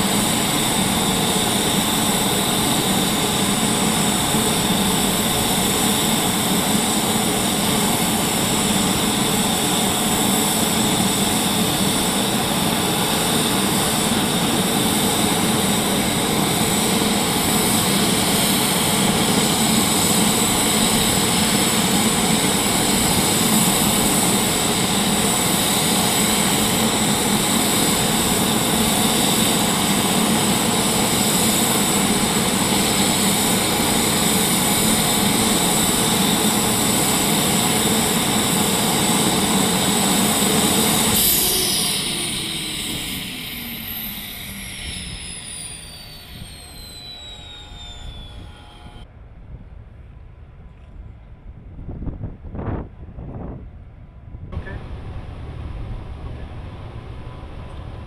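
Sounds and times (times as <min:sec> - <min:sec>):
aircraft turbines running: 0:00.0 - 0:58.0.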